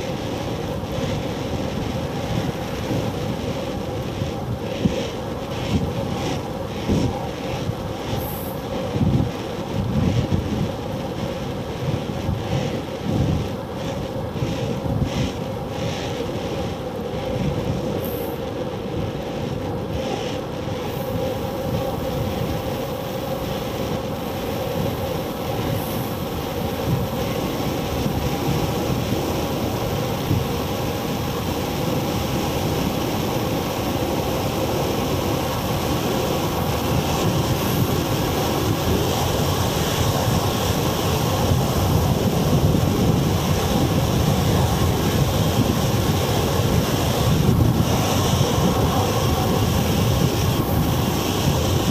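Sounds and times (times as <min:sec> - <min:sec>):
bicycle tyres rumbling on asphalt: 0:00.0 - 0:51.9
wind rushing over microphone: 0:00.0 - 0:51.9.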